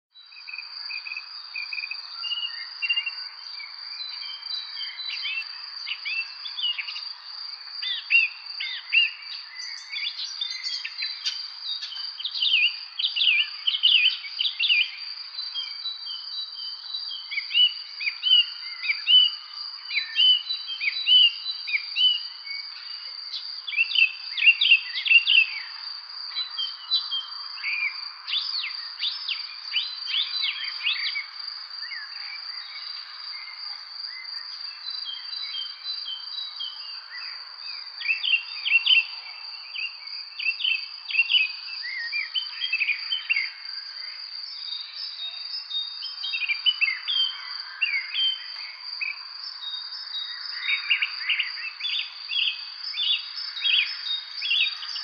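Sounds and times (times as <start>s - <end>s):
insect drone: 0.2s - 55.0s.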